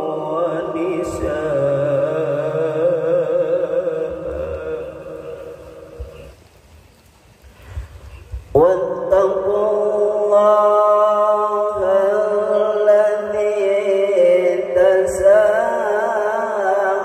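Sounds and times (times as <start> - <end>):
man reciting melodically: 0.0 - 6.4, 8.5 - 17.0.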